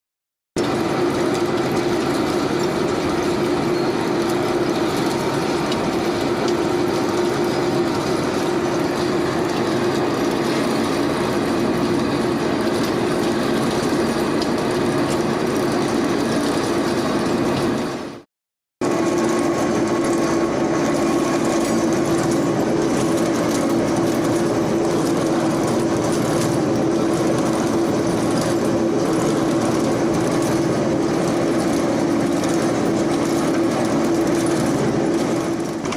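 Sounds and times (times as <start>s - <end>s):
lathe running: 0.6s - 18.2s, 18.8s - 35.9s.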